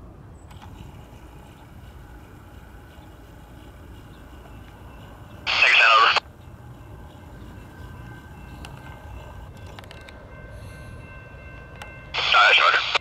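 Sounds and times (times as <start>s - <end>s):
distant freight train rumble: 0.0s - 13.0s
steady high-pitched tones: 1.0s - 13.0s.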